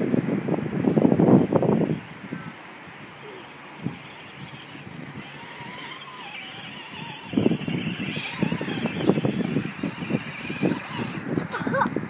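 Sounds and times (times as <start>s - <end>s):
toy truck electric motor whining: 1.2s - 11.9s.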